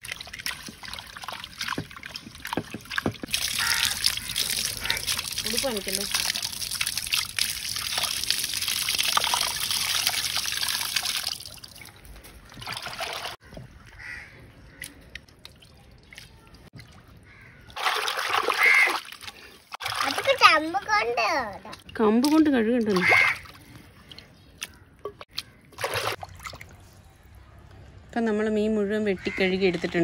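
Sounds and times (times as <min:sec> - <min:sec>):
water pouring and splashing: 0:00.0 - 0:27.1.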